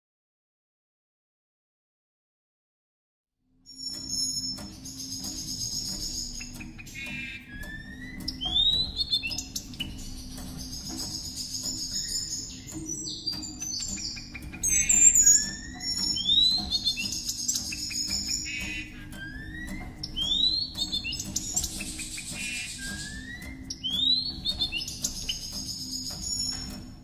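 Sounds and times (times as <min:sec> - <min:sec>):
bird singing high chirpy notes: 0:03.7 - 0:27.0.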